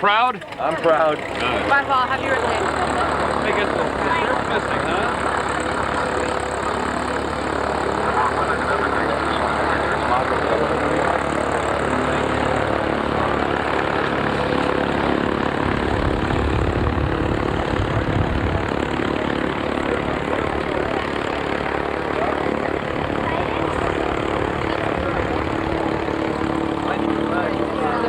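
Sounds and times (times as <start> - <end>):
propeller airplane engine running: 0.0 - 28.0.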